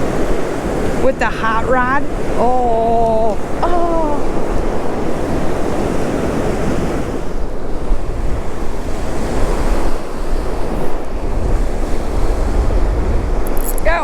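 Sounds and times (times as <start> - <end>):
water rushing through spillway: 0.0 - 14.0
wind buffeting microphone: 0.0 - 14.0.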